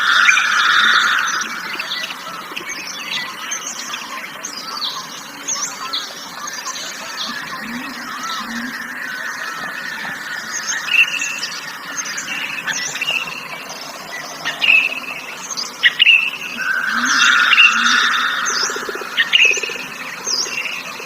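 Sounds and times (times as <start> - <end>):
birds chirping and whistling: 0.0 - 21.0
crickets droning: 0.0 - 21.0.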